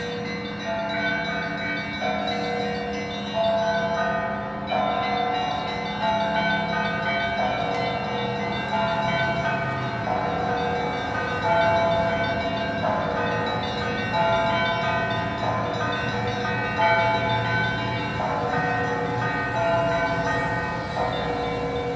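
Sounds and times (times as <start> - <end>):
church bells pealing: 0.0 - 21.9.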